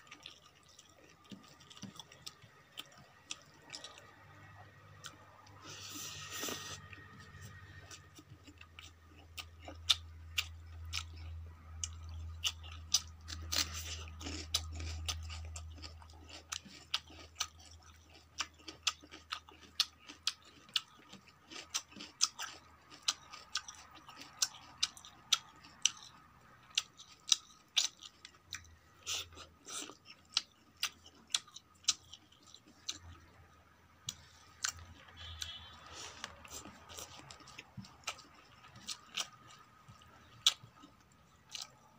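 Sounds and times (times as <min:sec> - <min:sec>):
chewing food: 0:00.0 - 0:41.9.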